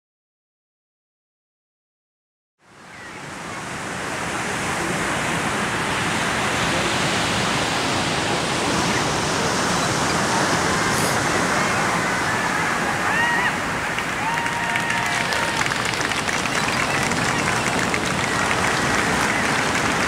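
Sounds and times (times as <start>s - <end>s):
waves washing on rocks: 3.3s - 20.0s.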